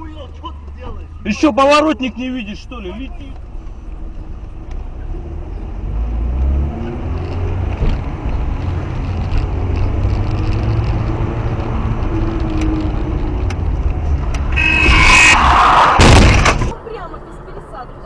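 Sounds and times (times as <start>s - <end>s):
car engine: 0.0s - 18.0s
road rumble: 0.0s - 18.0s.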